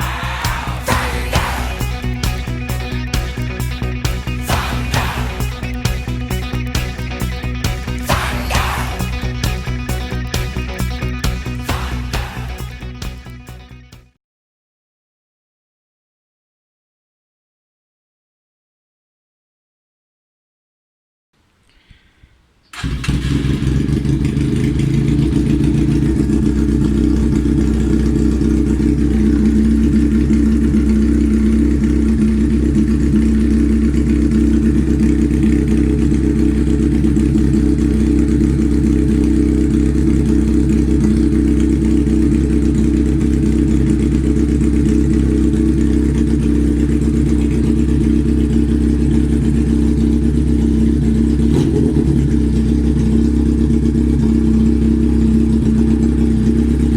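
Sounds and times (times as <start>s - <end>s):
motorcycle engine idling: 0.0s - 13.9s, 22.7s - 56.9s.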